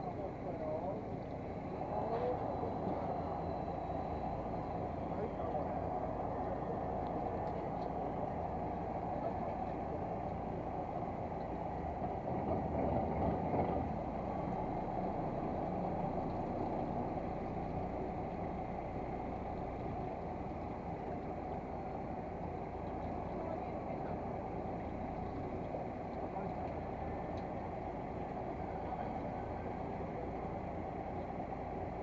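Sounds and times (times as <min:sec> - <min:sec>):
boat engine running: 0:00.0 - 0:32.0
water noise: 0:00.0 - 0:32.0
wind: 0:00.0 - 0:32.0.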